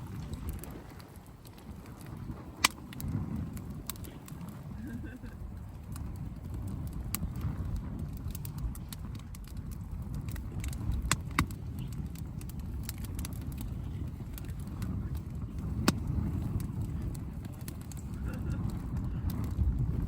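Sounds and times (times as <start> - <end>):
campfire crackling: 0.0 - 20.0
low fire rumble: 0.0 - 20.0
sharp pops of burning wood: 0.0 - 20.0.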